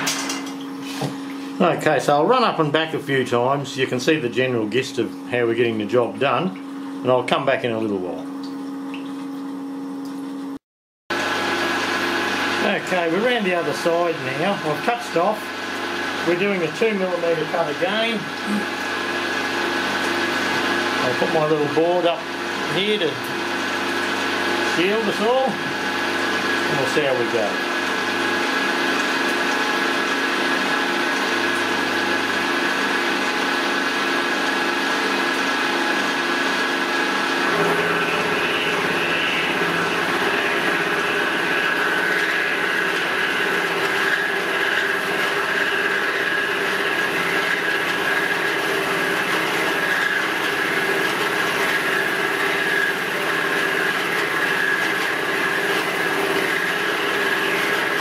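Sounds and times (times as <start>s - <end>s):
milling machine cutting metal: 0.0s - 6.5s, 11.2s - 58.0s.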